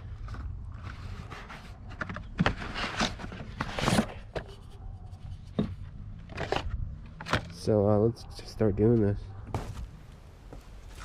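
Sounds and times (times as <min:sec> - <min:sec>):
handling knocks and scrapes: 0:00.0 - 0:07.6, 0:09.5 - 0:11.0.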